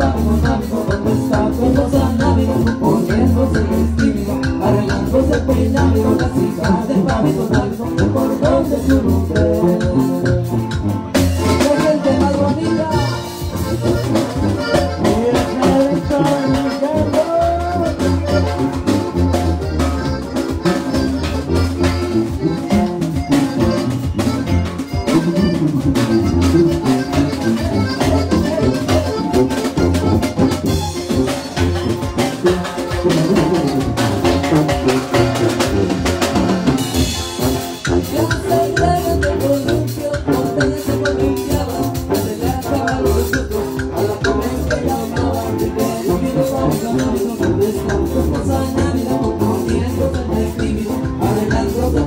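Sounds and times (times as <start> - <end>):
person singing: 0.0 - 10.7, 11.3 - 23.9, 24.9 - 34.9, 37.8 - 52.0
button accordion melody: 0.0 - 52.0
drum kit beat: 0.0 - 52.0
tuba bass line: 0.0 - 52.0.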